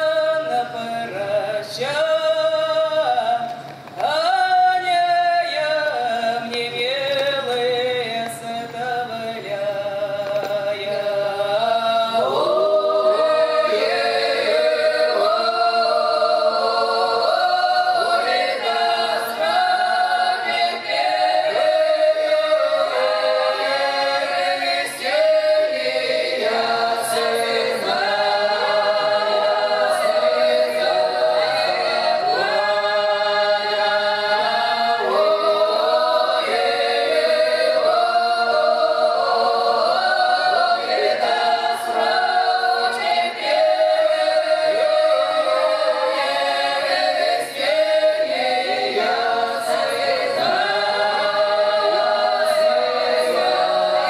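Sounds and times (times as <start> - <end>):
women's voices singing a cappella: 0.0 - 54.0.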